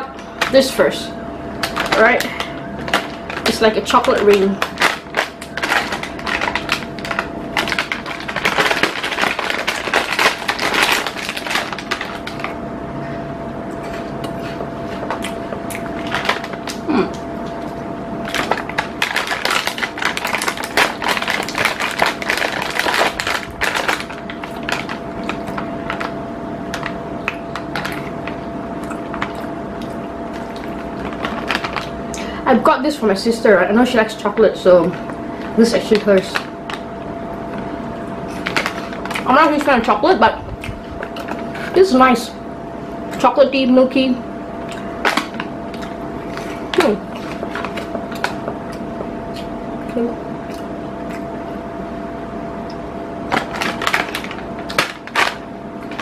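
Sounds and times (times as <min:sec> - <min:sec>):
snack wrappers crinkling and tearing: 0:01.6 - 0:12.6, 0:13.8 - 0:32.4, 0:34.8 - 0:41.9, 0:44.6 - 0:51.3, 0:53.3 - 0:56.0.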